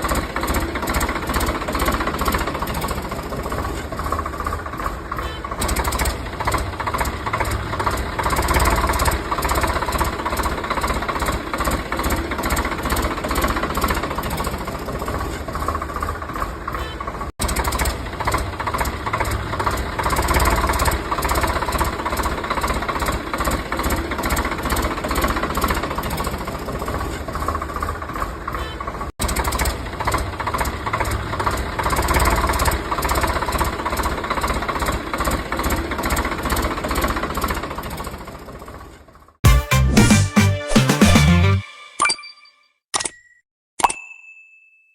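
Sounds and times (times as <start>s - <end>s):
engine knocking rattle: 0.0s - 39.4s.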